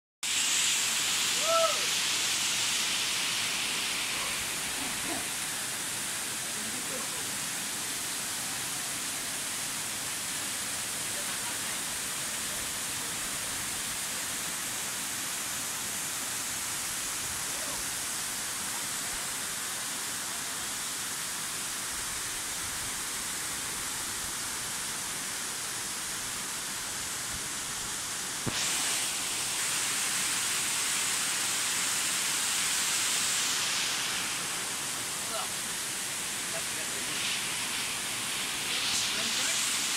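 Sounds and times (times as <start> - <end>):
high-pitched hiss: 0.2 - 39.9
waterfall rushing over rock: 0.2 - 39.9.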